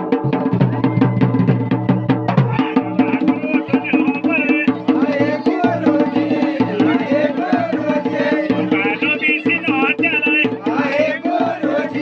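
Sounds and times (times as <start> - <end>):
drums in fast rhythm: 0.0 - 12.0.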